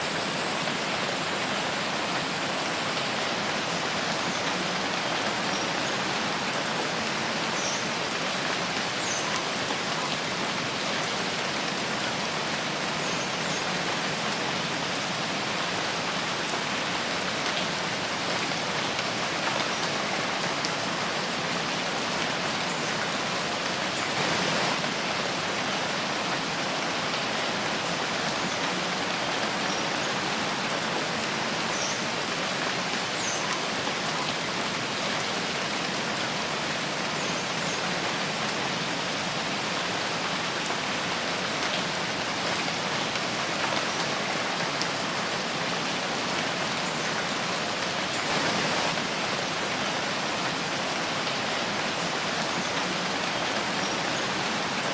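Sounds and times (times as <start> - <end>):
rain falling in forest: 0.0 - 54.9.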